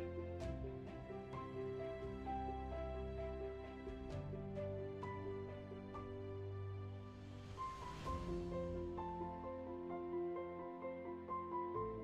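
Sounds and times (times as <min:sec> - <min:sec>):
soft slow instrumental music: 0:00.0 - 0:12.0.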